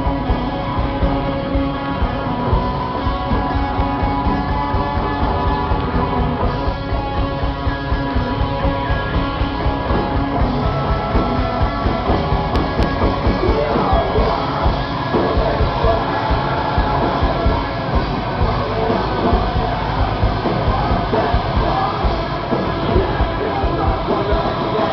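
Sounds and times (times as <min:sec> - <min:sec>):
drum kit: 0:00.0 - 0:24.9
electric guitars: 0:00.0 - 0:24.9.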